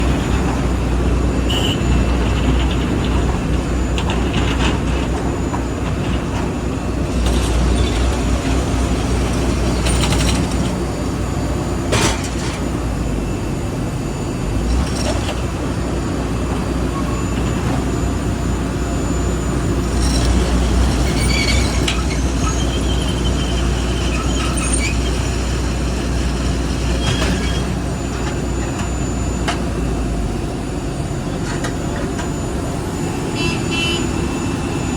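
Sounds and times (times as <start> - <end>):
machinery engine rumble: 0.0 - 34.9.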